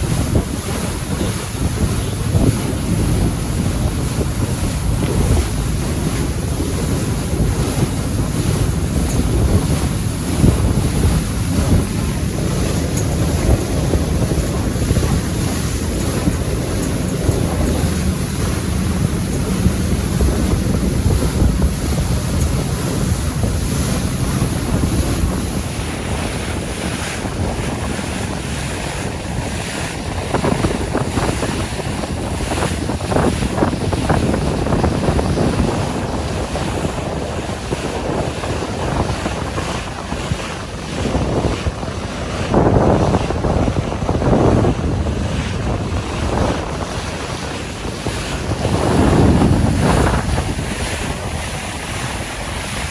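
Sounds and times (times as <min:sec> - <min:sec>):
waves rushing: 0:00.0 - 0:52.9
wind buffeting microphone: 0:00.0 - 0:52.9.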